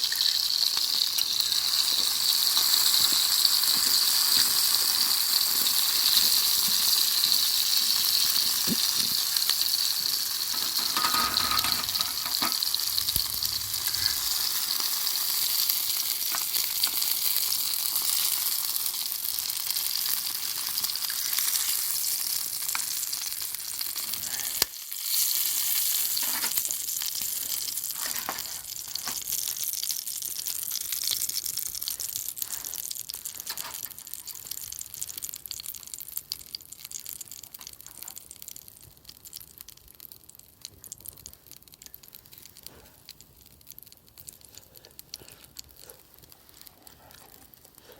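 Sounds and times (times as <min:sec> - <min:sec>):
food sizzling in a frying pan: 0:00.0 - 0:47.9.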